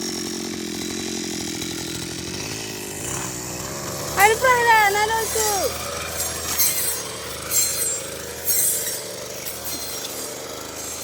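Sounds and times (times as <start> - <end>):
grass-cutting machine rasping: 0.0 - 11.0.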